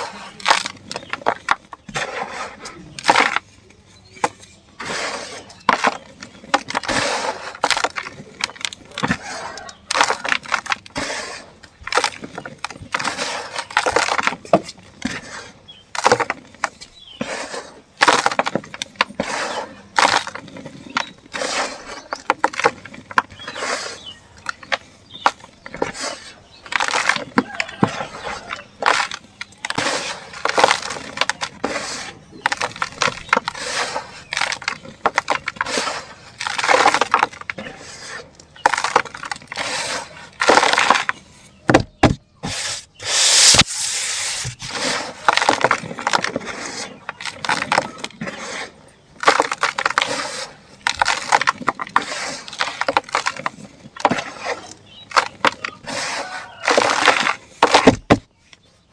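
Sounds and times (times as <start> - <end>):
dried dirt clumps crumbling: 0.0 - 58.9.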